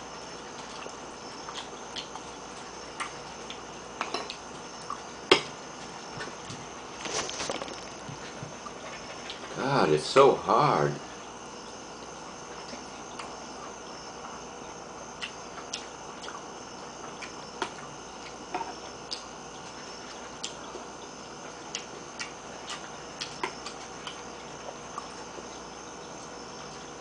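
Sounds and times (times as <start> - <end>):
room hiss: 0.0 - 27.0.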